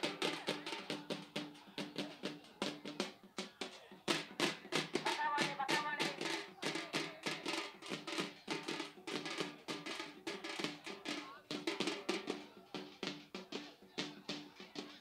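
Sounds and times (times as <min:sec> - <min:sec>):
drums beaten fast: 0:00.0 - 0:15.0.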